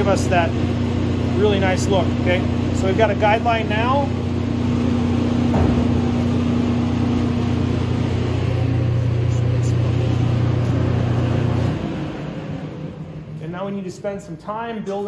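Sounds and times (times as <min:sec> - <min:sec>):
exhaust fan motor humming: 0:00.0 - 0:15.0.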